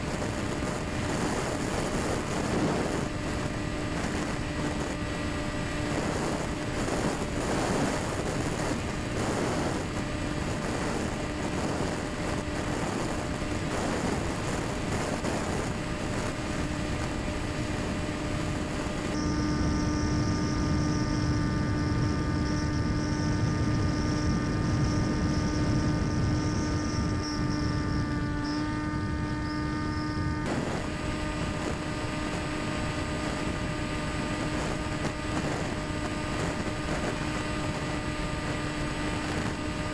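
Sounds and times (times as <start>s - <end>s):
electric motor whine: 0.0s - 39.9s
wind rush: 0.0s - 39.9s.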